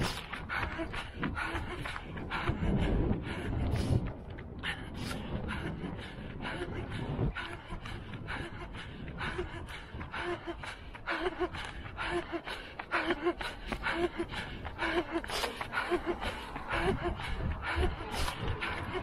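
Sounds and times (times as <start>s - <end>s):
footsteps on stone paving: 0.0s - 19.0s
runner panting: 0.0s - 19.0s.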